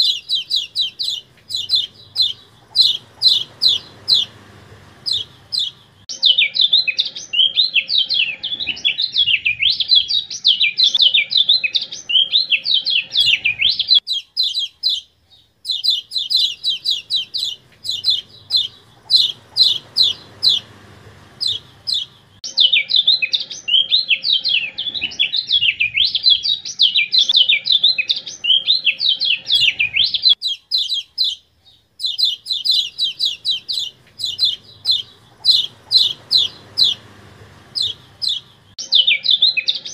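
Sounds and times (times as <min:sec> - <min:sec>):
bird warbling: 0:00.0 - 0:10.1, 0:10.9 - 0:26.2, 0:27.3 - 0:31.4, 0:32.0 - 0:39.2
bird chip calls: 0:00.0 - 0:39.9.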